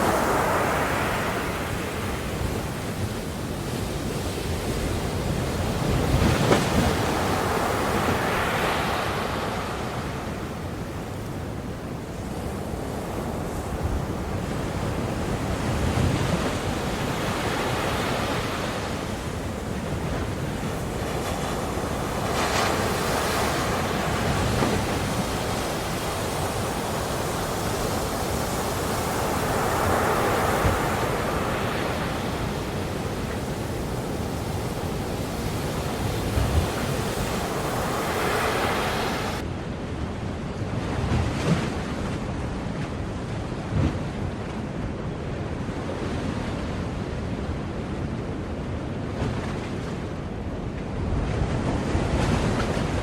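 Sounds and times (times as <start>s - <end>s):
waves breaking on shore: 0.0s - 53.0s.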